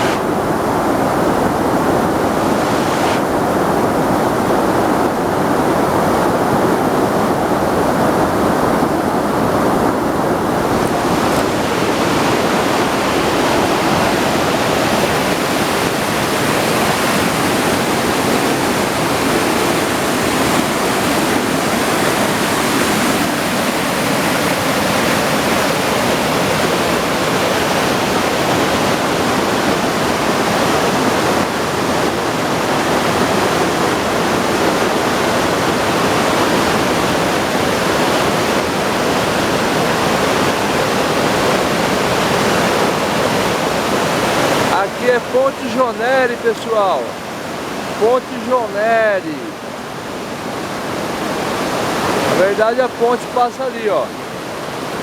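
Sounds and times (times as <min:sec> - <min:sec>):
waterfall and rapids rushing: 0:00.0 - 0:55.0.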